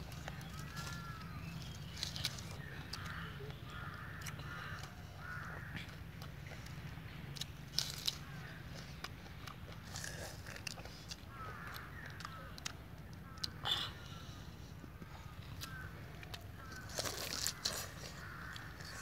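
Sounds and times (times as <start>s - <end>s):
birds calling harshly: 0.0s - 9.2s, 9.8s - 19.0s
low steady hum: 0.0s - 19.0s
fruit snapping and clicking: 0.2s - 6.3s, 7.3s - 13.6s, 15.6s - 19.0s.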